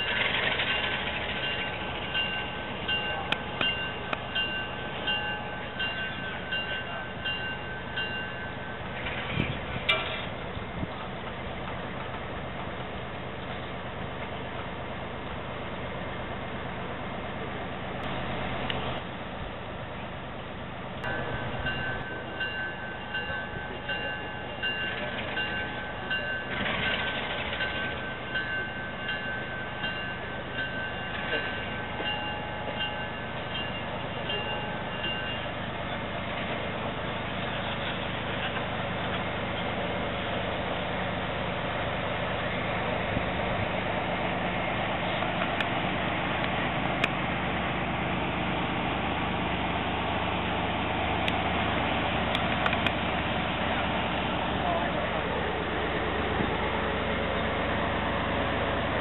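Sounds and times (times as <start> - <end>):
locomotive bell ringing: 0.0 - 15.1, 20.3 - 59.0
low engine rumble: 0.0 - 59.0.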